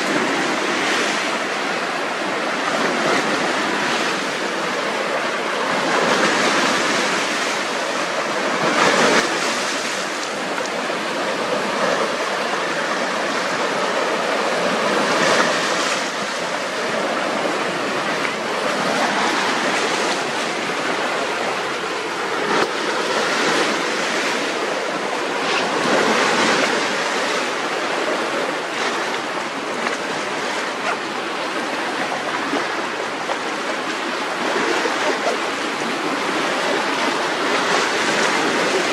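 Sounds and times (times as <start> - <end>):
waves splashing against rocks: 0.0 - 38.9.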